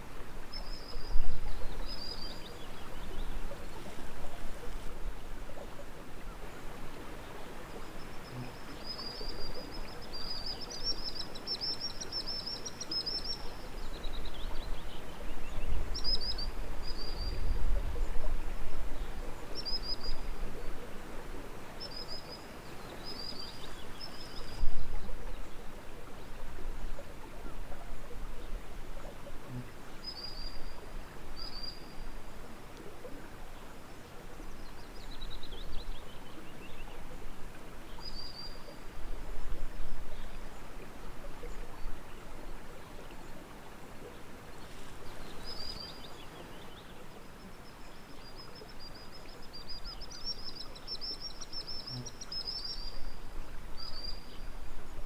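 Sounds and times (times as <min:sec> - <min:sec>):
songbirds singing: 0:00.0 - 0:55.0
steady outdoor hiss: 0:00.0 - 0:55.0.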